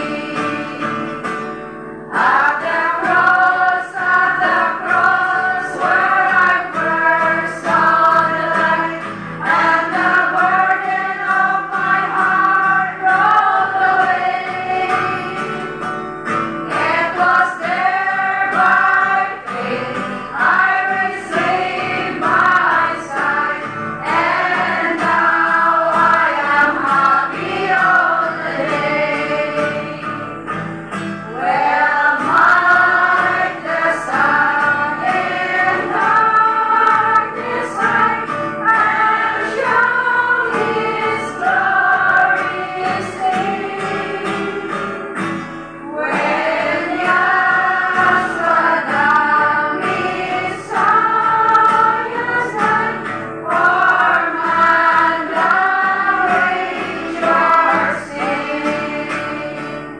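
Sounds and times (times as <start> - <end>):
women's choir singing a hymn: 0.0 - 59.9.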